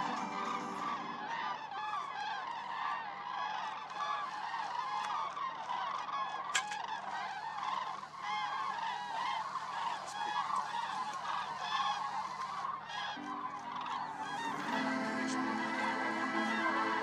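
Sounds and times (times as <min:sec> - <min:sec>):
cranes honking in flight: 0:00.0 - 0:02.8, 0:05.9 - 0:17.0.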